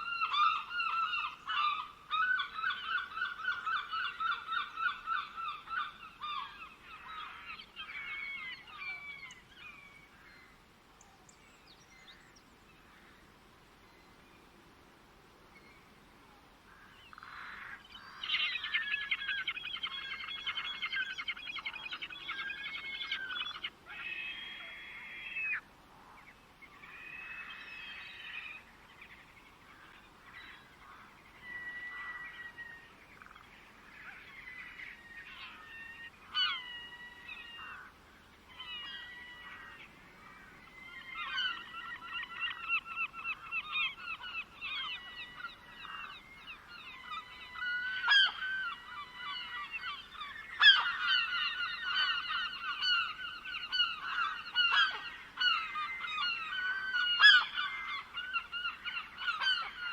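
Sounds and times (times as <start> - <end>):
birds singing and trilling: 0.0 - 12.6, 16.9 - 25.6, 26.7 - 59.9.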